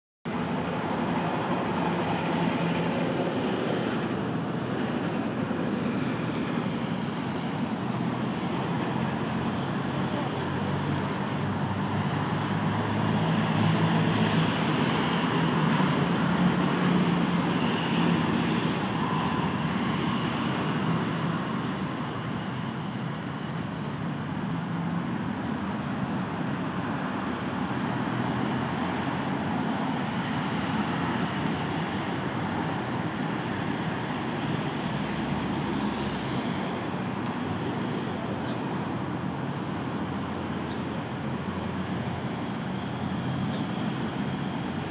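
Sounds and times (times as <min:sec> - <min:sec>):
cars passing: 0:00.3 - 0:44.9.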